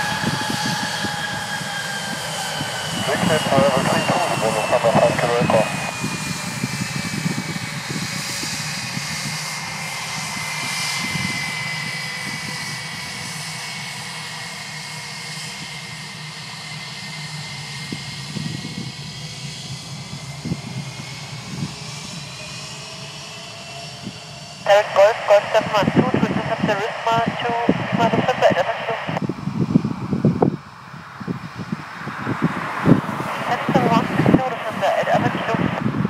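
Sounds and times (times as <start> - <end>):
jet engines whining and rumbling: 0.0 - 36.0.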